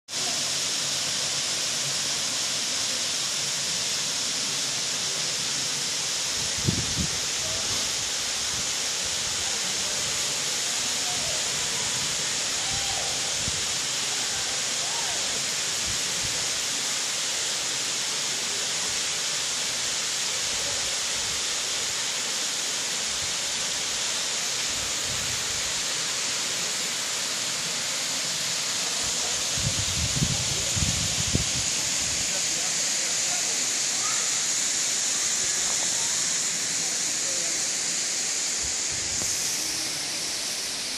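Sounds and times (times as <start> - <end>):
waterfall splashing into pool: 0.1 - 40.9.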